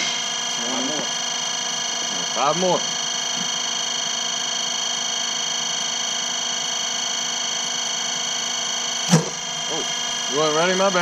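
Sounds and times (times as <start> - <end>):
steady high-toned hum: 0.0 - 11.0.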